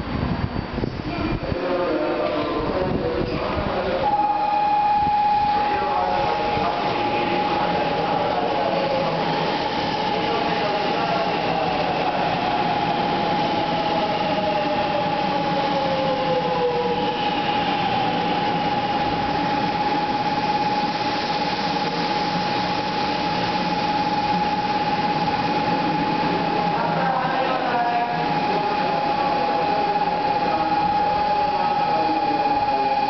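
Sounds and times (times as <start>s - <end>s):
train rolling to a stop: 0.0s - 33.0s.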